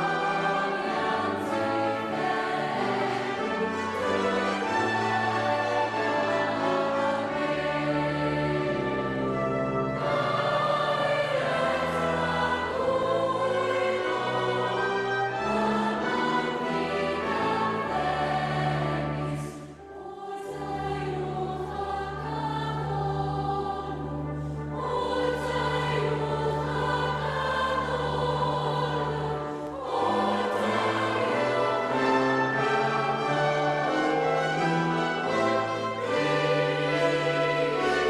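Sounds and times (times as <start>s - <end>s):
choir singing a carol: 0.0s - 38.0s
orchestral accompaniment: 0.0s - 38.0s.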